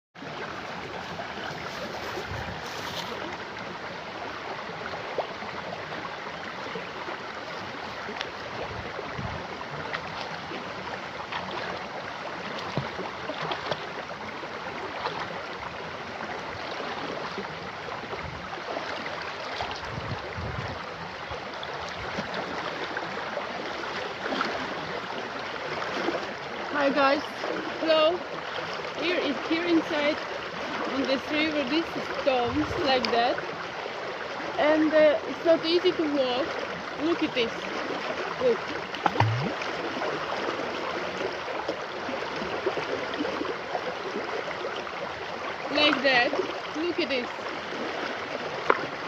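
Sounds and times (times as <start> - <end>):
river rushing over stones: 0.2 - 49.0.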